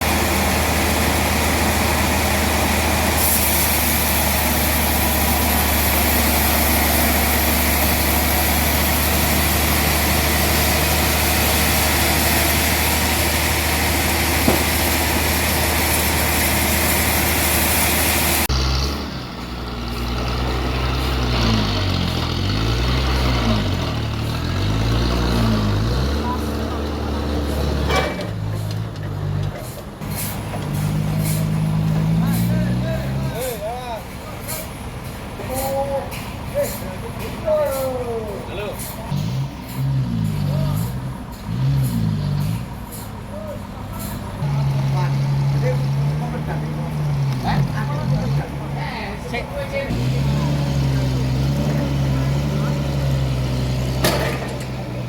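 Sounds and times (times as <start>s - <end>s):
engine revving: 0.0s - 33.9s, 38.6s - 55.0s
heavy engine deep hum: 0.0s - 55.0s.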